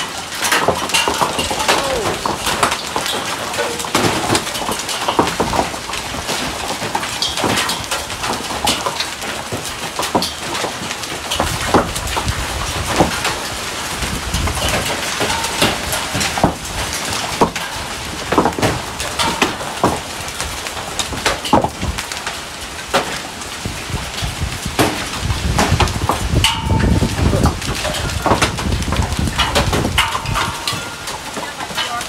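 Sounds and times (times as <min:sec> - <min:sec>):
hailstones knocking hard surfaces: 0:00.0 - 0:32.0
rain and hail downpour: 0:00.0 - 0:32.0.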